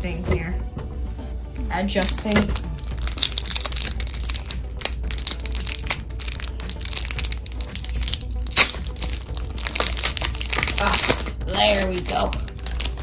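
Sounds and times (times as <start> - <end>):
plastic packaging crinkling: 2.0 - 13.0
plastic snapping: 2.0 - 13.0.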